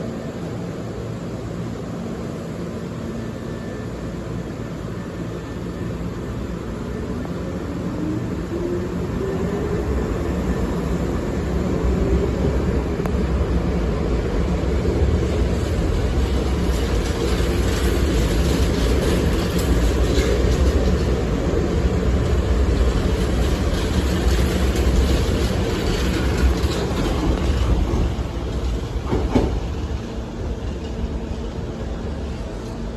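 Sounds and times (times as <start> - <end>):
train low rumble: 0.0 - 32.9.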